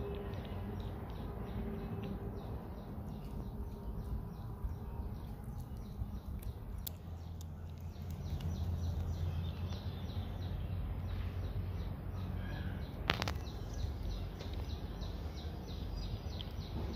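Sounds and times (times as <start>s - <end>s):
low outdoor rumble: 0.0s - 16.9s
small birds chirping: 0.0s - 16.9s.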